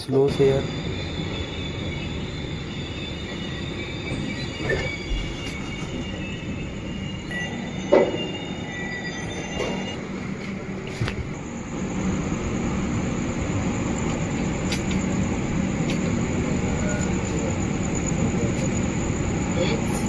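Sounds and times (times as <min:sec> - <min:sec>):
train rumble: 0:00.0 - 0:20.0
wheels squealing: 0:00.0 - 0:20.0.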